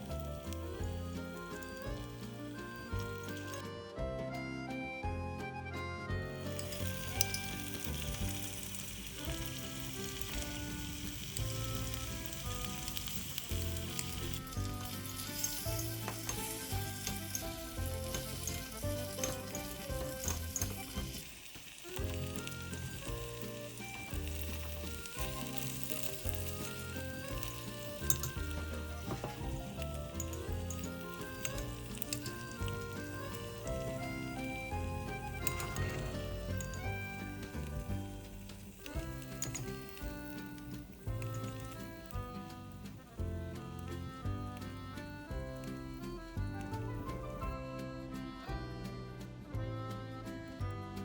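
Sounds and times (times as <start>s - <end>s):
food sizzling in a pan: 0.0s - 3.6s, 6.3s - 47.3s
background music: 0.0s - 51.0s.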